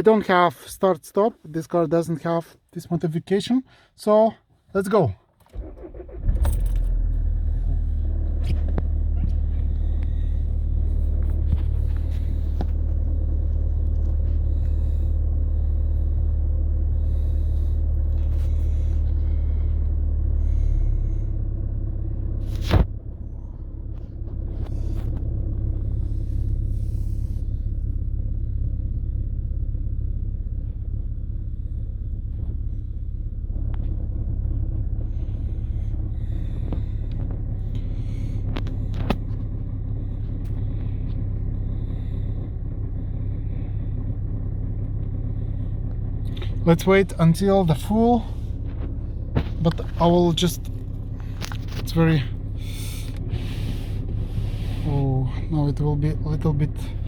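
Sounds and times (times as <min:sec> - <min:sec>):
diesel engine idling: 0:05.5 - 0:57.0.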